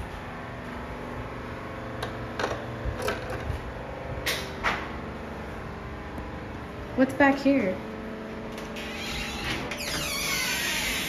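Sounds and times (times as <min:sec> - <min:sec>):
air conditioner hum: 0:00.0 - 0:11.0.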